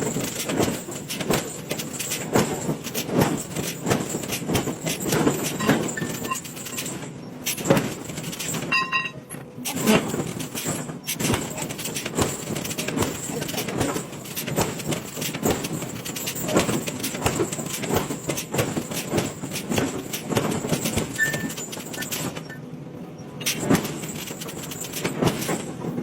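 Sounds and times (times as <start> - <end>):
metal forging knocks and clanks: 0.0 - 22.6, 23.2 - 26.0.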